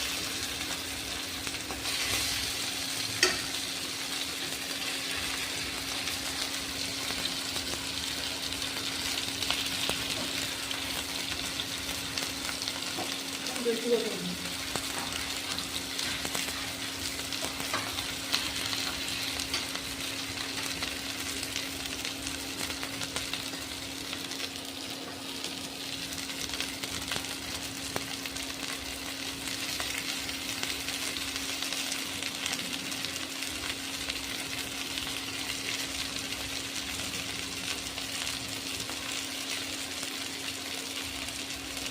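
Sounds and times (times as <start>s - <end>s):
chicken sizzling in oil: 0.0s - 41.9s.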